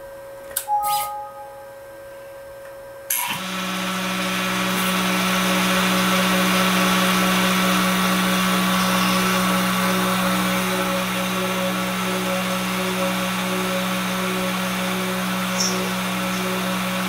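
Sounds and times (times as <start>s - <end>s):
mill spindle humming and hissing: 3.1s - 17.0s.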